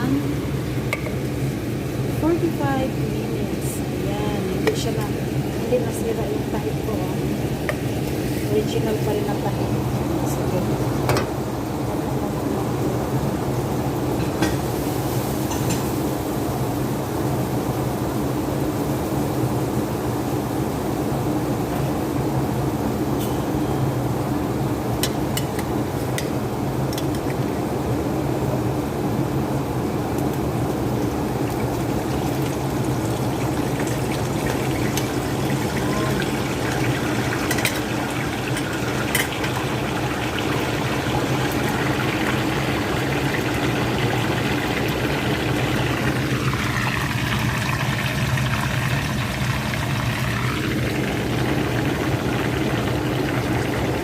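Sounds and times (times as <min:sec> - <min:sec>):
oil sizzling and bubbling: 0:00.0 - 0:54.0.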